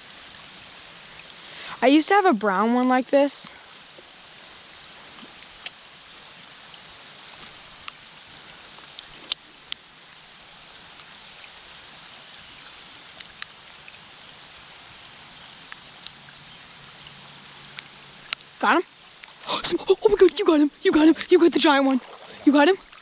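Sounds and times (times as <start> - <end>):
creek water flowing: 0.0 - 23.0
rain hissing: 0.0 - 23.0.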